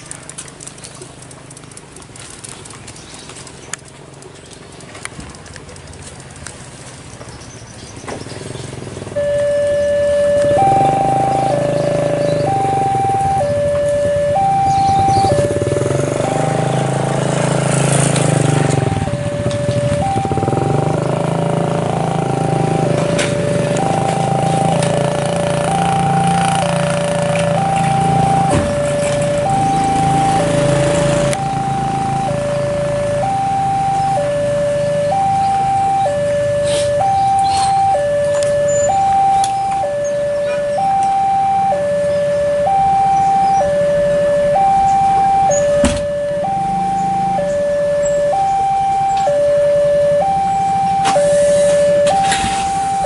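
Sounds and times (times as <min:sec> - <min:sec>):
motorcycle engine running: 0:00.0 - 0:51.1
level crossing two-tone alarm: 0:09.2 - 0:53.0.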